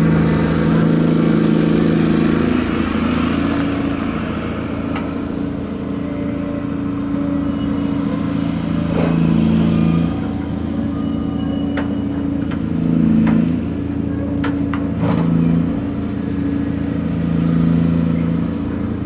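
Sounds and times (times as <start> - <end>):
crane engine and machinery running: 0.0 - 19.0.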